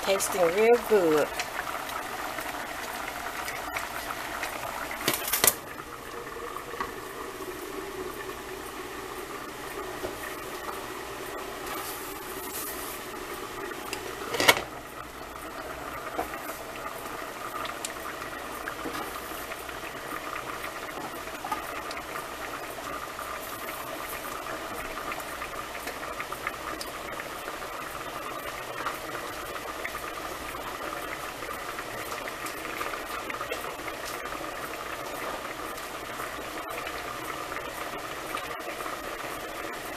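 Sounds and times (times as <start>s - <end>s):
pot boiling and bubbling: 0.0s - 39.9s.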